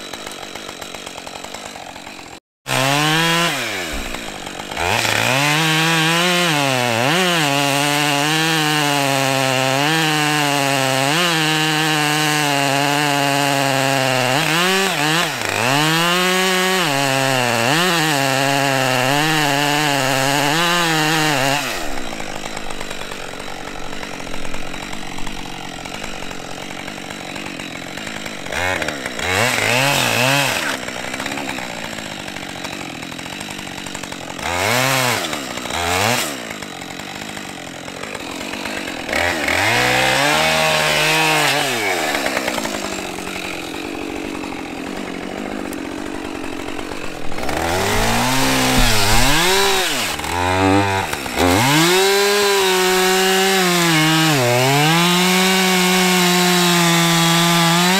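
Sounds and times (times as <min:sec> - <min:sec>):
chainsaw revving and cutting wood: 0:00.0 - 0:57.9.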